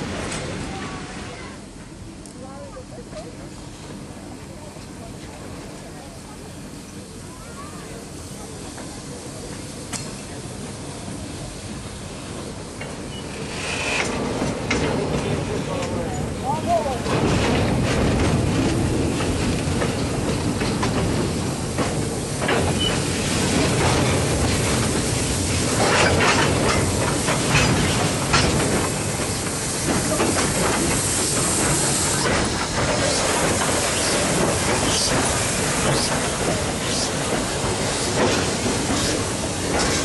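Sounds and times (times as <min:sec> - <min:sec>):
steam hiss: 0:05.5 - 0:16.4, 0:17.1 - 0:40.0
train wheels rumbling over rail joints: 0:07.9 - 0:40.0.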